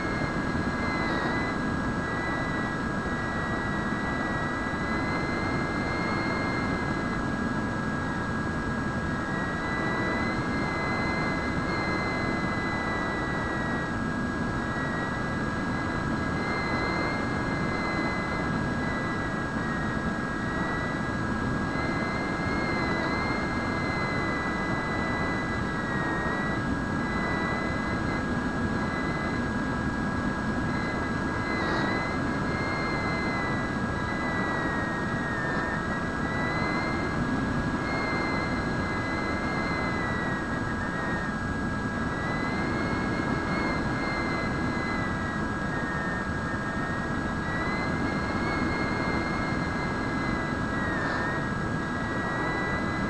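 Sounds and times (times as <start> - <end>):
electric motor whine: 0.0 - 53.0
wind and propeller rush: 0.0 - 53.0.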